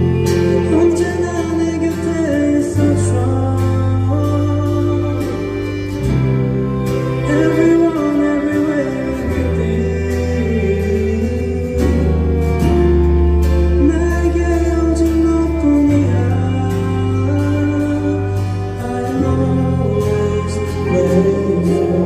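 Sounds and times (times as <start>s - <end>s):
bass line: 0.0s - 22.0s
guitar: 0.0s - 22.0s
person singing: 0.0s - 22.0s.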